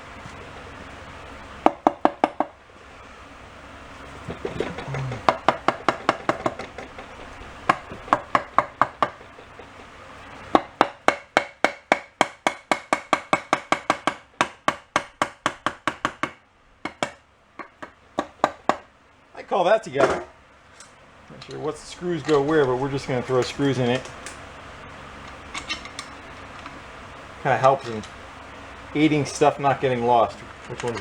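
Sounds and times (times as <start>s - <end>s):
fan hum: 0.0s - 31.0s.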